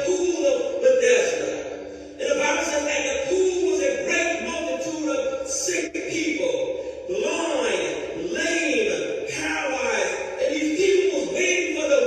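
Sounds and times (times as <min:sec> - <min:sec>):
music: 0:00.0 - 0:12.0
person chanting: 0:00.0 - 0:12.0.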